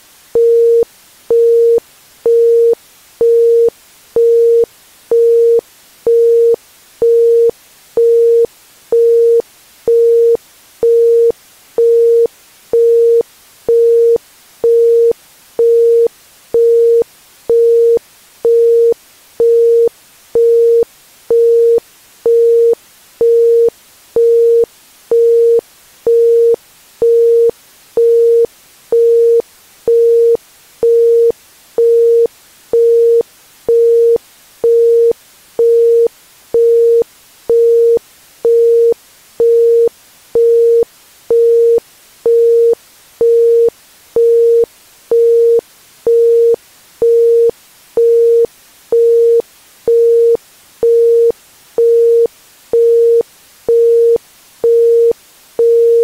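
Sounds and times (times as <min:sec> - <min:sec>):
faint steady hiss: 0:00.0 - 0:56.0.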